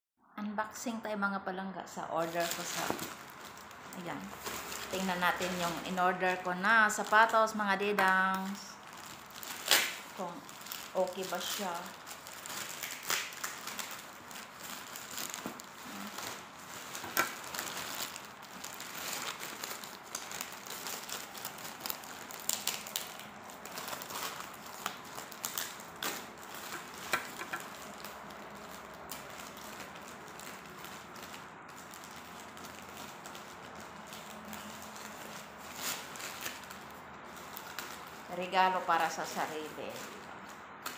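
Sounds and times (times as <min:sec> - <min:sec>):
plastic bag crinkling: 0:02.1 - 0:40.9.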